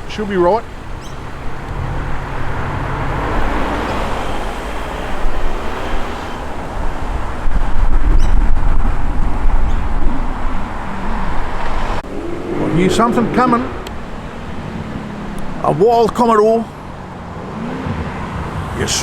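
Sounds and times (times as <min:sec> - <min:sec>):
car engines rumbling: 0:00.0 - 0:19.0.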